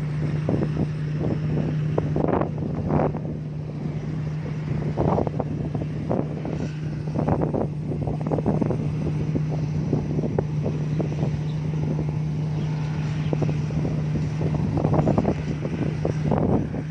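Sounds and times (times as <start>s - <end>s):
combine harvester engine drone: 0.0s - 16.9s.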